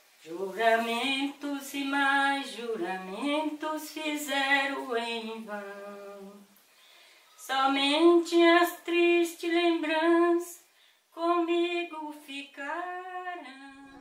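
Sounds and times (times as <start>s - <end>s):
person singing unaccompanied: 0.0s - 6.6s, 7.3s - 14.0s.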